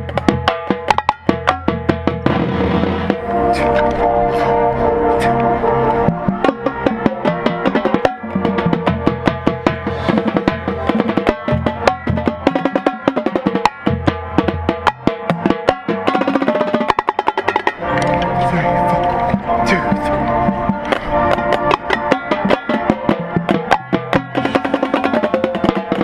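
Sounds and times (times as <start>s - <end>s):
rapid drum strokes: 0.0s - 4.6s, 6.1s - 26.0s
marching band playing: 0.0s - 26.0s.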